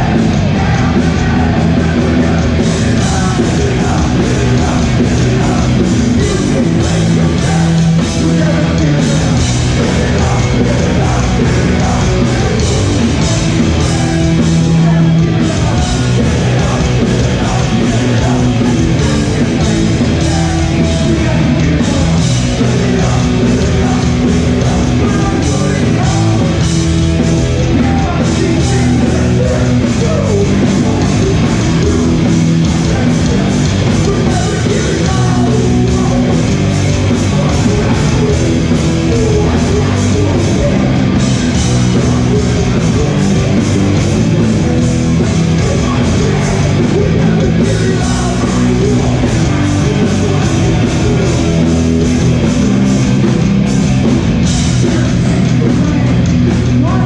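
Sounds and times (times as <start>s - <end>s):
person singing: 0.0s - 26.8s, 27.6s - 53.3s, 54.4s - 57.0s
bass guitar: 0.0s - 57.0s
distorted electric guitars: 0.0s - 57.0s
fast drums: 0.0s - 57.0s.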